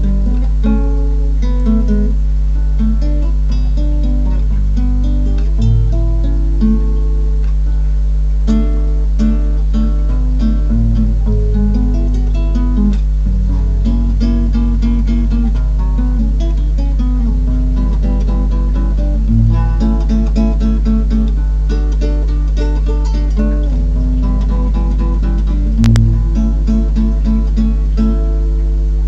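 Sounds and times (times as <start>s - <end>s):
fingerpicked acoustic guitar: 0.0s - 29.0s.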